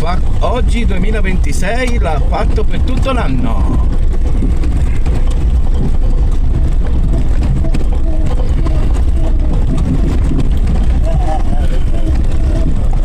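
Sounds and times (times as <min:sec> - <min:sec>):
off-road vehicle engine rumble: 0:00.0 - 0:13.0.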